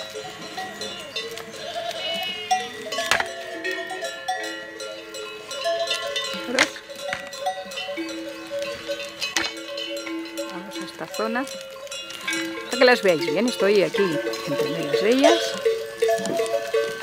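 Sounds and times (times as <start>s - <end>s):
goat bells clanking: 0.0s - 17.0s
goats bleating: 0.0s - 17.0s.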